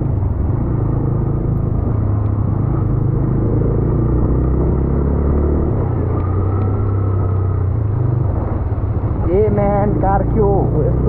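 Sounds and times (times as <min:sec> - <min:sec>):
motorcycle engine rumble: 0:00.0 - 0:11.0
wind: 0:00.0 - 0:11.0.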